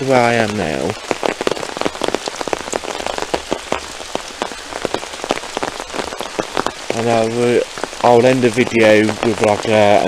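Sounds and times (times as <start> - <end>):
heavy rain falling: 0.0 - 10.0
raindrops tapping close by: 0.0 - 10.0.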